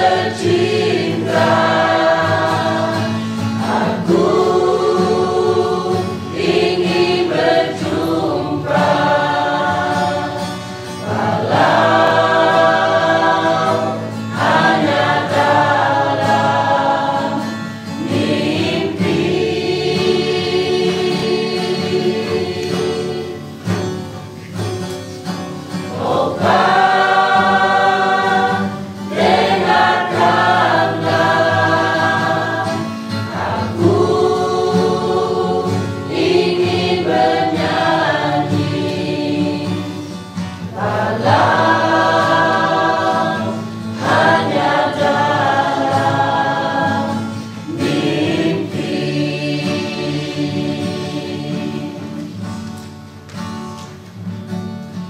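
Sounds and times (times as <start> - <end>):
group of people singing: 0.0 - 52.8.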